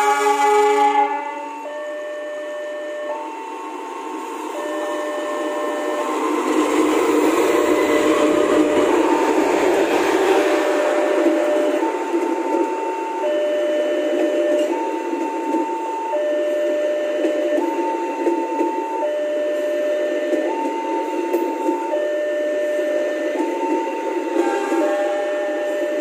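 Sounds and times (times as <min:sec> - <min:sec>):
two-tone electronic warning alarm: 0:00.0 - 0:26.0
train coaches rolling past: 0:02.2 - 0:26.0.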